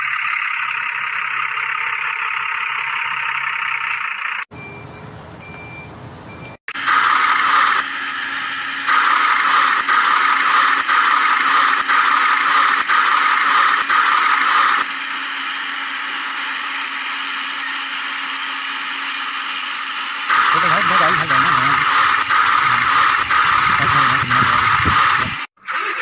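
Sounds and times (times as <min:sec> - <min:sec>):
small motor whirring: 0:00.0 - 0:04.4, 0:06.7 - 0:26.0.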